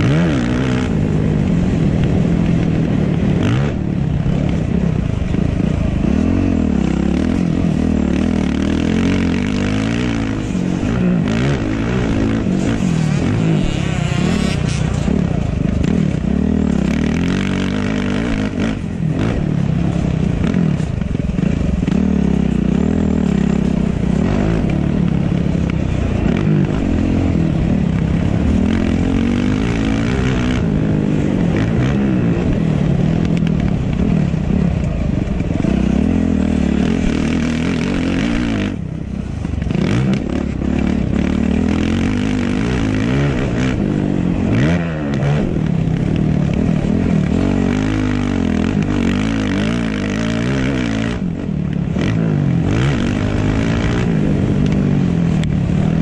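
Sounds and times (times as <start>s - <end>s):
motocross engine revving: 0.0s - 33.4s, 39.6s - 56.0s.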